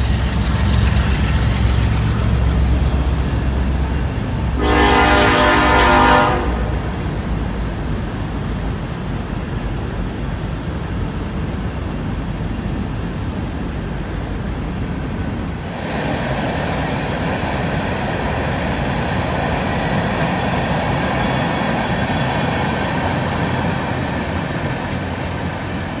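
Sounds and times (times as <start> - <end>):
train wheels clattering on rails: 0.0 - 5.7, 6.8 - 26.0
freight train low rumble: 0.0 - 26.0.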